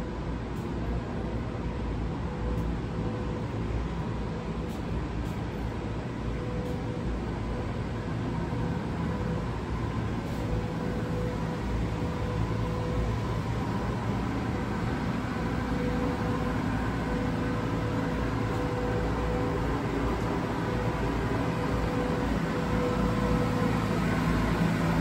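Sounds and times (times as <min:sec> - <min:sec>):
faint hum: 0:00.0 - 0:25.0
low city rumble: 0:00.0 - 0:25.0.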